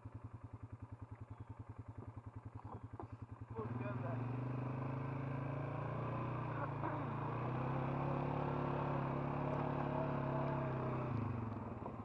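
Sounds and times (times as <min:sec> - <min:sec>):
four-wheeler engine running: 0:00.0 - 0:12.0.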